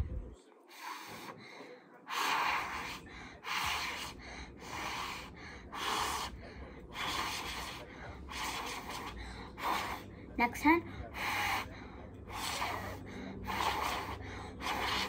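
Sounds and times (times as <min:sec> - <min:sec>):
breathy puffs of blowing: 0:00.7 - 0:10.3, 0:10.9 - 0:15.0.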